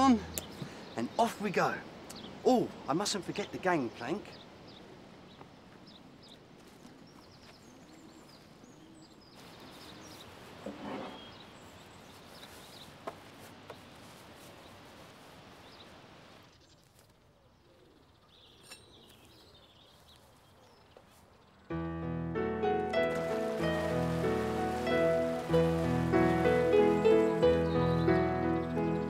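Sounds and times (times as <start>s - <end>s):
birds chirping: 0.0s - 13.1s, 15.6s - 21.8s, 22.5s - 29.0s.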